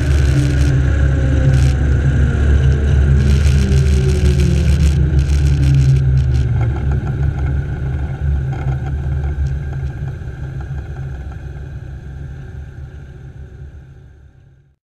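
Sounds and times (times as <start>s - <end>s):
wind rush and tyre noise: 0.0s - 12.2s
aircraft engine idling: 0.0s - 14.7s.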